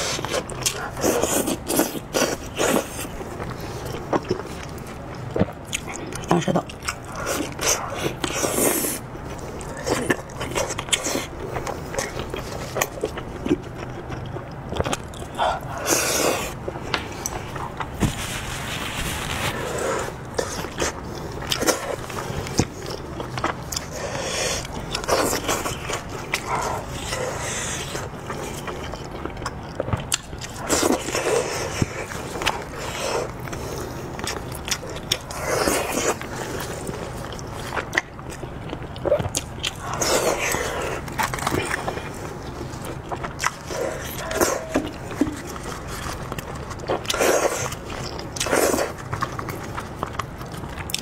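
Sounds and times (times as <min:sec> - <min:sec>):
chewing and biting meat: 0:00.0 - 0:18.0, 0:19.8 - 0:51.0.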